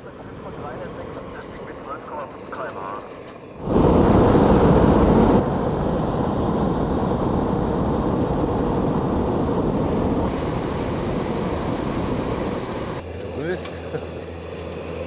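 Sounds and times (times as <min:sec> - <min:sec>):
propane burners rushing: 0:00.0 - 0:15.0.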